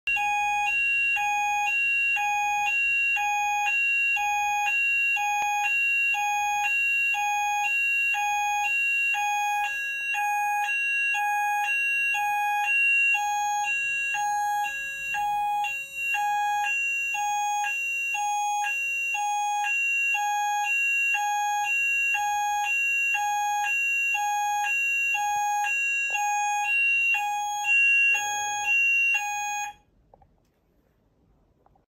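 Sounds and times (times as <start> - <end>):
fire alarm two-tone sounding: 0.1 - 29.9.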